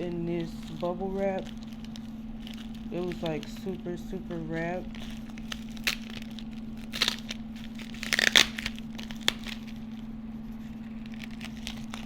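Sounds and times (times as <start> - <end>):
bubble wrap crinkling: 0.0 - 12.0
steady low hum: 0.0 - 12.0.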